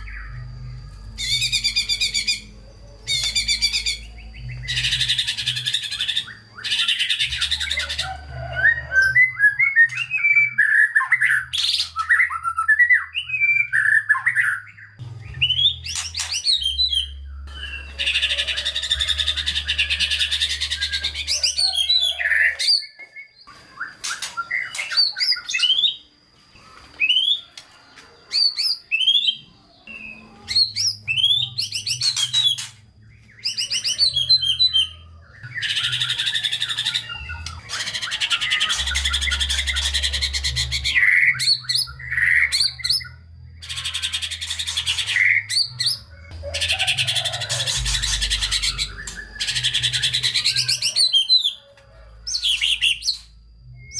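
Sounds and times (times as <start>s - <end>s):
bird singing varied song: 0.0s - 53.9s.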